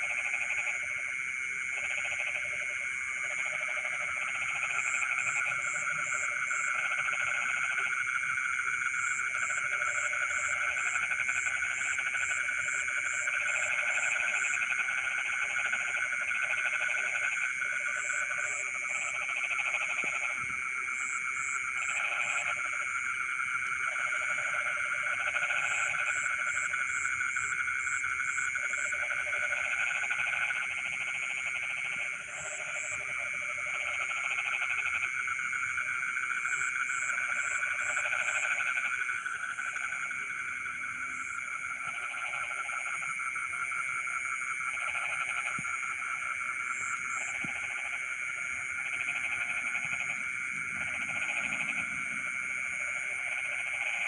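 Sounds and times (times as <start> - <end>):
frogs trilling: 0.0 - 54.0
lower frog calls: 0.0 - 54.0.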